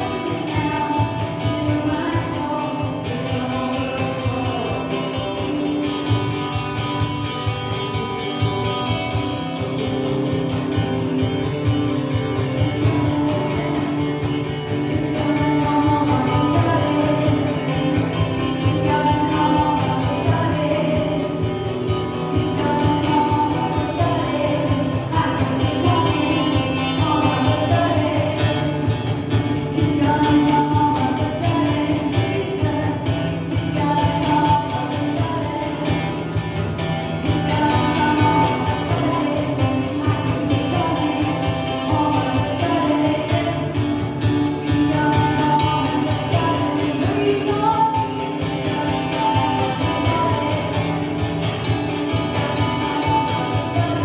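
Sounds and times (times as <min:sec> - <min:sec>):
guitar and band playing: 0:00.0 - 0:54.0
voices singing worship song: 0:07.7 - 0:54.0.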